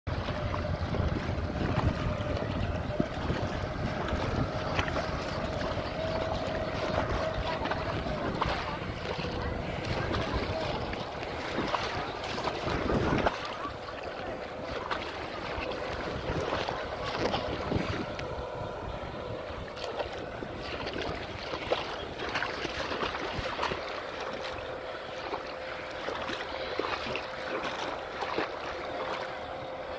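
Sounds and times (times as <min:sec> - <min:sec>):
water churning around wheels: 0:00.1 - 0:29.9
wind buffeting microphone: 0:00.1 - 0:29.9.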